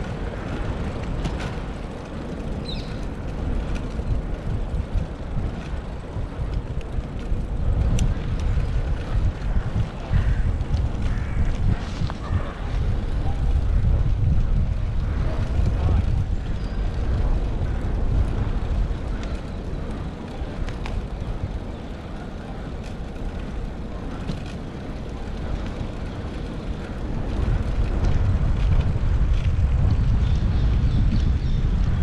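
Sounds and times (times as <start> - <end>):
wind and road rumble: 0.0 - 32.0.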